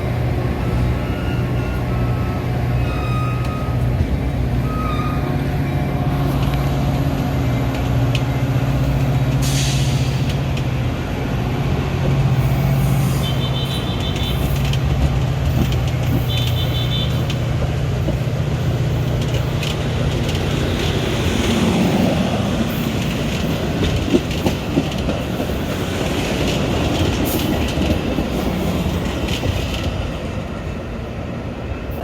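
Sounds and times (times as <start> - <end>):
rail rumble with light clicks: 0.0 - 32.0
train low hum: 0.0 - 32.0.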